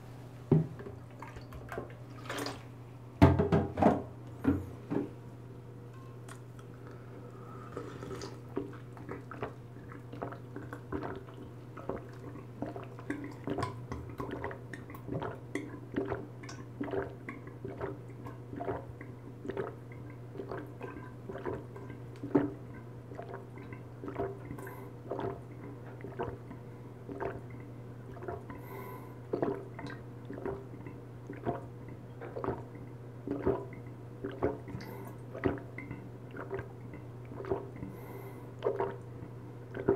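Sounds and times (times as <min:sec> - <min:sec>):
person gulping juice: 0:06.2 - 0:39.9.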